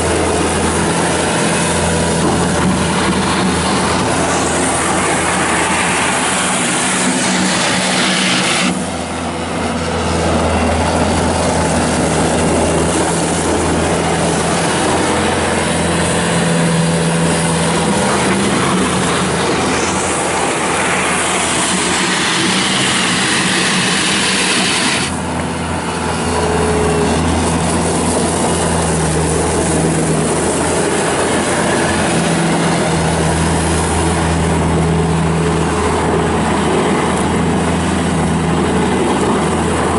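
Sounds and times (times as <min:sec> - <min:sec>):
diesel loader engine running: 0:00.0 - 0:39.9.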